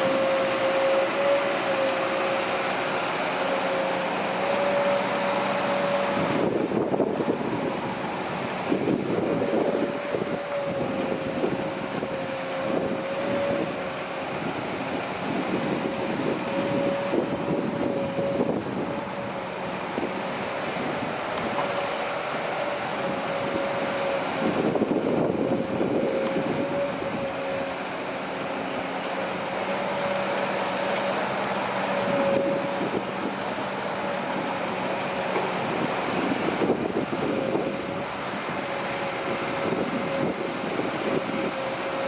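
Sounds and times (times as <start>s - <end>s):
excavator diesel engine whining: 0.0s - 42.0s.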